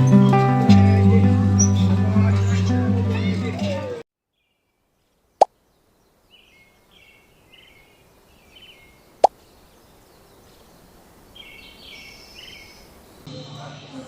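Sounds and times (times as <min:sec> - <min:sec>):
small birds chirping: 0:00.0 - 0:13.3.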